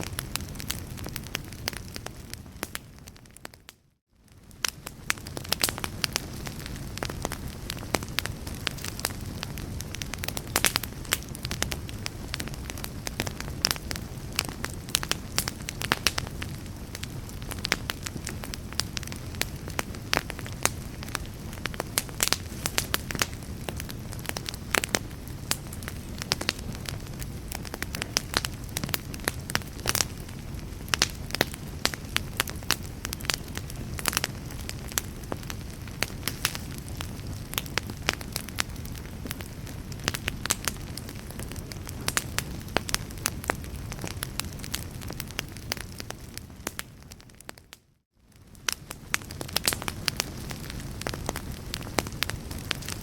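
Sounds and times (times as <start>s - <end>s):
fire crackling and popping: 0.0s - 53.0s
fire rumbling: 0.0s - 53.0s.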